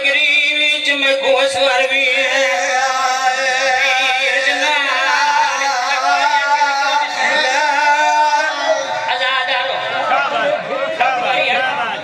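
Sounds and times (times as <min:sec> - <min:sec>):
man chanting through loudspeaker: 0:00.0 - 0:12.0.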